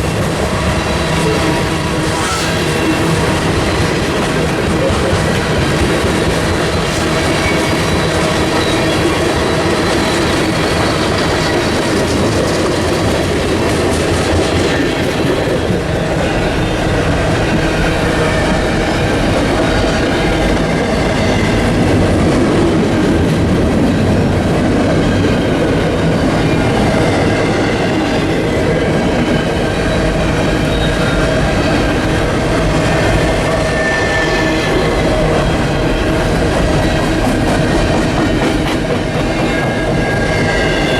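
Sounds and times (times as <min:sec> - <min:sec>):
railroad cars clicking over rail joints: 0:00.0 - 0:40.9
steel wheels squealing on rails: 0:00.0 - 0:40.9
train rolling past: 0:00.0 - 0:40.9.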